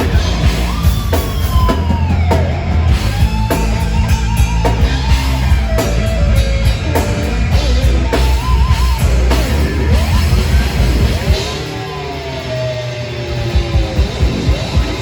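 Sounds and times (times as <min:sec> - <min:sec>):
bending lead guitar line: 0:00.0 - 0:15.0
heavy metal band playing live: 0:00.0 - 0:15.0.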